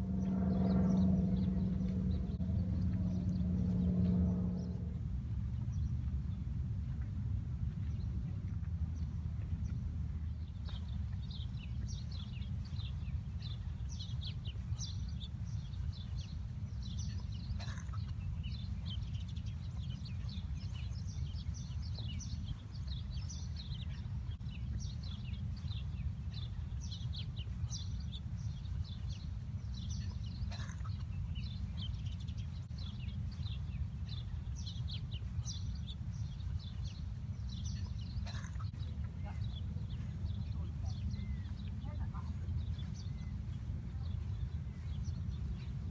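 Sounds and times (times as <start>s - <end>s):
songbirds chirping: 0.0s - 45.9s
steady low rumble: 0.0s - 45.9s.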